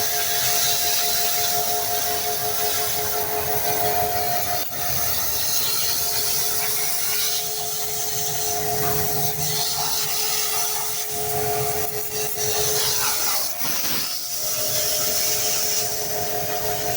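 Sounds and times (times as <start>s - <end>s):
two-tone machine hum: 0.0s - 16.9s.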